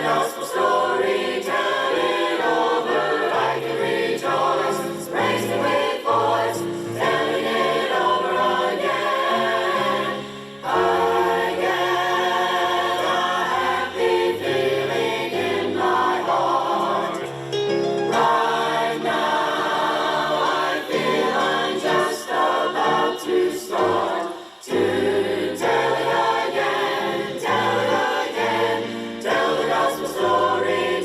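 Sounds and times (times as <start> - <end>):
choir singing gospel in harmony: 0.0 - 31.0.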